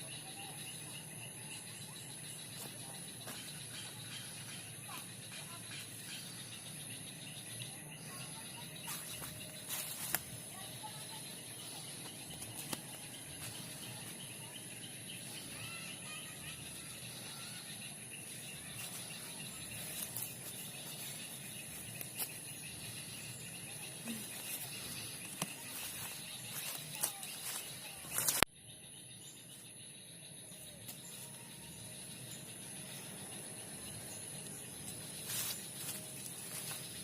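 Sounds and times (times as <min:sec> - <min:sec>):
faint bird chirps: 0:00.0 - 0:37.0
high insect drone: 0:00.0 - 0:37.0.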